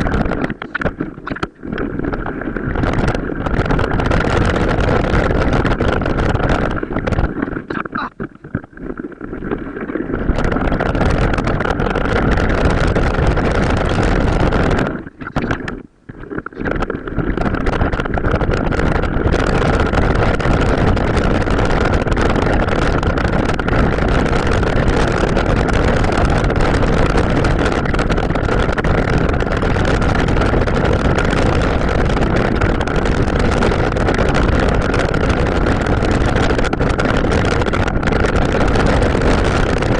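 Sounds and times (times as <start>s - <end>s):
steady whine: 0.0s - 39.9s
wind buffeting microphone: 0.0s - 39.9s.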